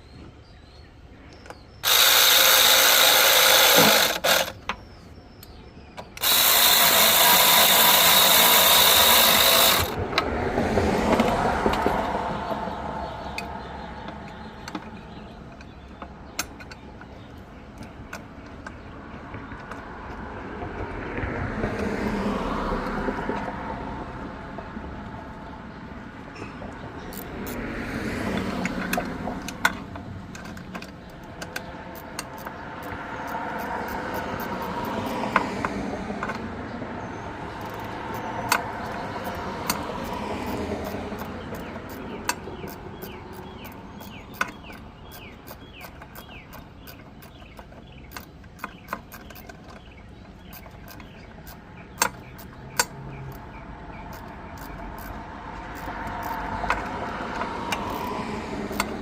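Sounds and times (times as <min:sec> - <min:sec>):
road vehicles passing: 0:00.0 - 0:59.0
sharp clicks and knocks: 0:01.3 - 0:12.5, 0:13.2 - 0:59.0.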